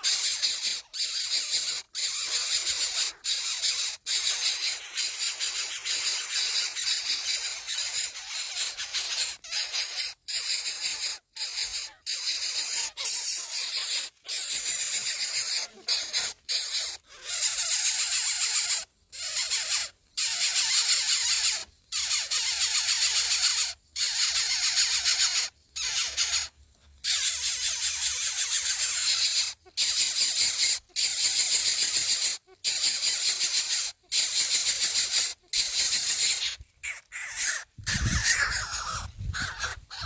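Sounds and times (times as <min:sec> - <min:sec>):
nestlings begging calls: 0:00.0 - 0:40.0.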